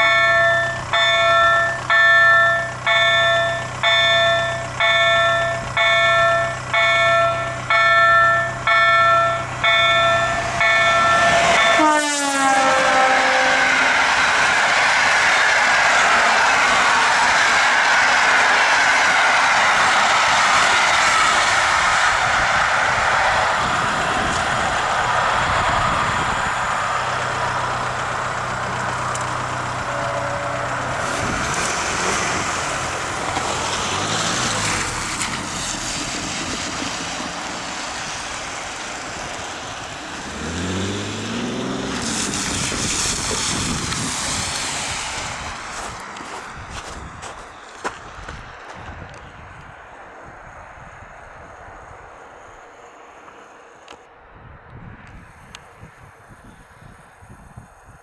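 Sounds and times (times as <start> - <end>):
train wheels on rails: 0.0 - 49.8
vehicle engine humming: 0.0 - 49.8.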